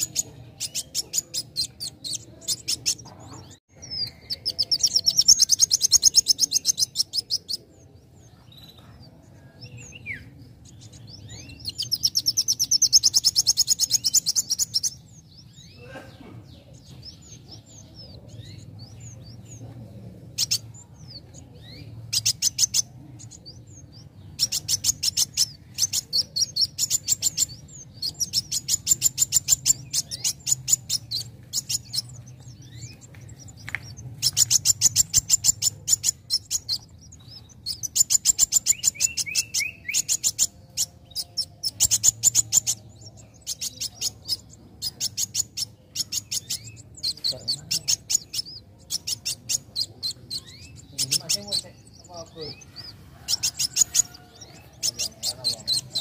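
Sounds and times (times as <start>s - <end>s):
bird chattering trills: 0.0s - 56.0s.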